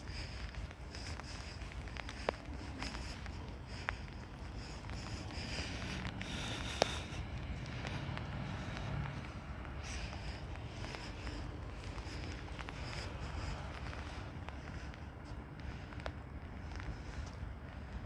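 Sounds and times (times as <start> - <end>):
footsteps: 0.0 - 18.0
steady rain: 0.0 - 18.0.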